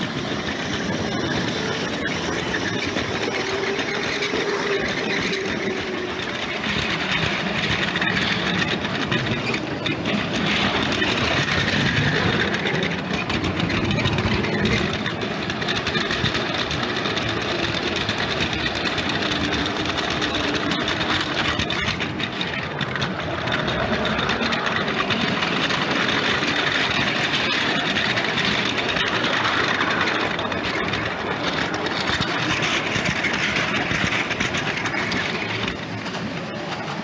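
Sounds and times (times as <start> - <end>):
toy train motor whirr: 0.0 - 37.0
toy train wheel rumble: 0.0 - 37.0.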